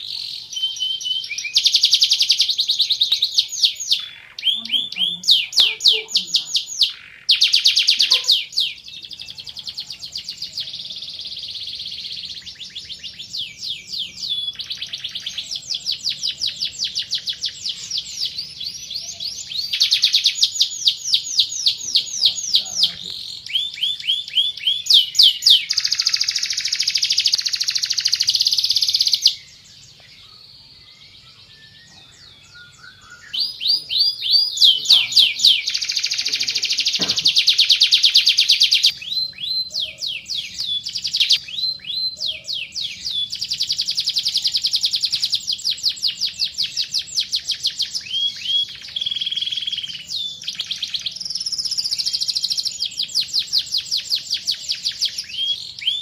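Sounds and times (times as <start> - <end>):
canary singing trilled notes: 0.0 - 30.1, 31.1 - 56.0.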